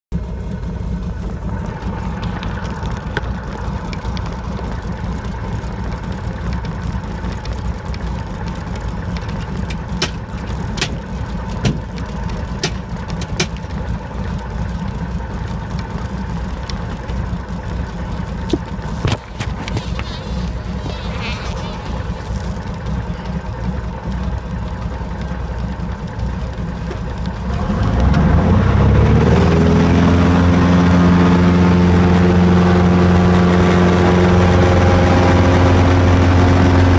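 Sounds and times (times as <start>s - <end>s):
light aircraft engine and propeller: 0.1s - 36.9s.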